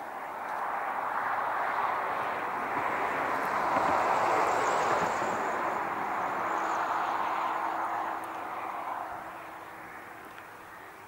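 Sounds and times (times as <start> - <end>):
engine rushing past: 0.8 - 9.6.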